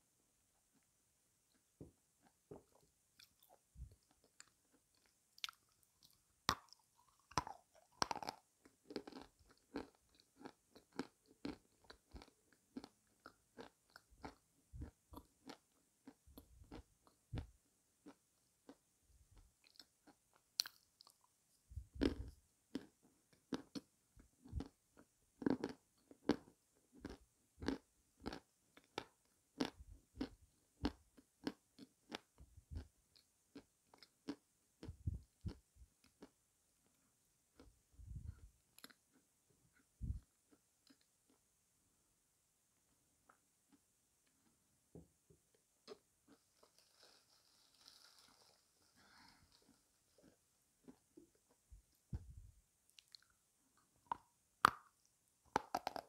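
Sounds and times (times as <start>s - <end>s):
person chewing crunchy food: 2.2s - 41.5s, 45.9s - 53.4s, 54.1s - 56.0s.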